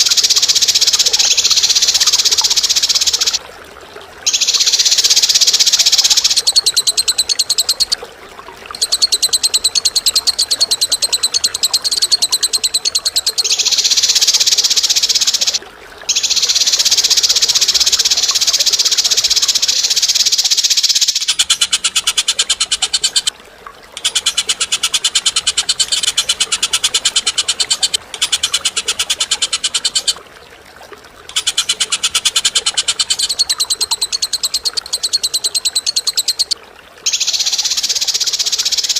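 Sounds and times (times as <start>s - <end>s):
bird rattling song: 0.0s - 3.4s, 4.3s - 8.0s, 8.7s - 23.3s, 24.0s - 30.2s, 31.3s - 38.9s.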